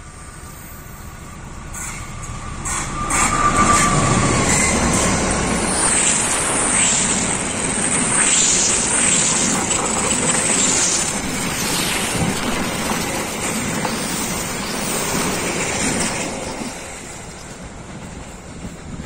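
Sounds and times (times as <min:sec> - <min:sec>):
high wheel squeals: 0:00.0 - 0:17.8
train wheels rushing on rails: 0:00.0 - 0:19.0.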